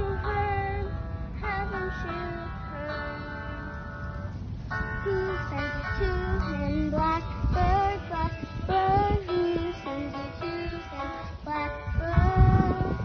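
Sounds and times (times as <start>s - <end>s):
child singing: 0.0s - 3.7s, 4.7s - 13.0s.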